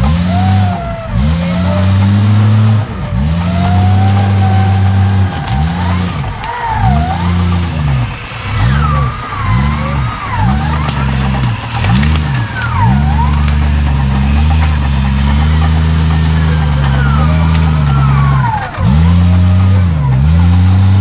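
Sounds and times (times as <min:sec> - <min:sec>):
engine revving: 0:00.0 - 0:21.0.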